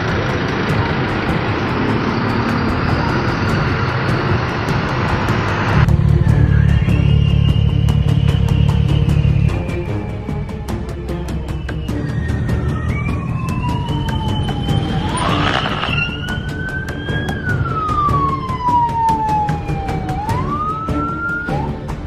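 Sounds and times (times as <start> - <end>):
background music with steady beat: 0.0 - 22.0
emergency vehicle siren wailing: 0.0 - 22.0.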